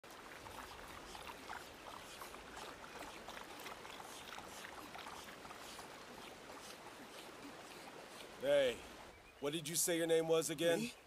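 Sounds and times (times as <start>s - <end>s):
stream babbling over stones: 0.0s - 9.2s.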